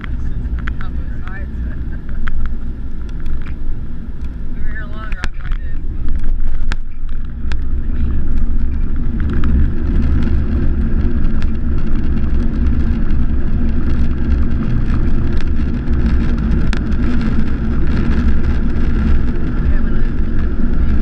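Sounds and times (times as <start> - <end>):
airliner cabin low rumble: 0.0 - 21.0.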